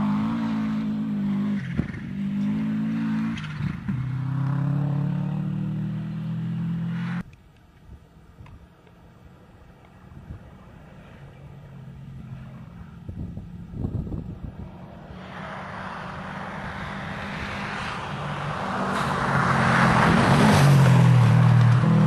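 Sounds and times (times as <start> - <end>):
rally car engine: 0.0 - 7.3, 11.4 - 22.0.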